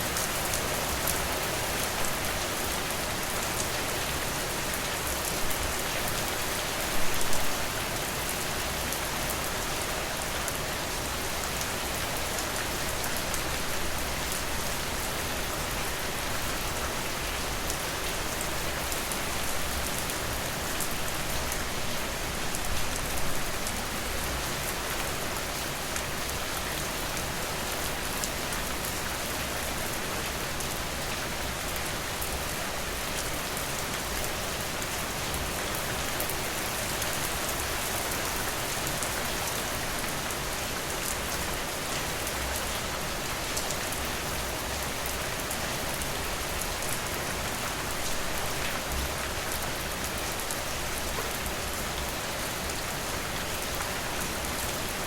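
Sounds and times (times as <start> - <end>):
steady rainfall hiss: 0.0 - 55.0.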